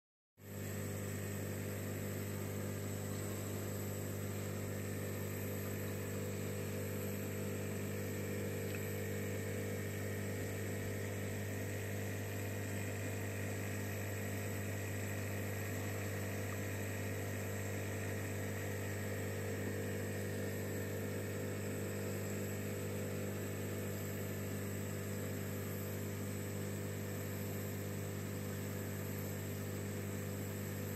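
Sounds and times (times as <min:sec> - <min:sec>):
aquarium pump humming: 0:00.4 - 0:30.9.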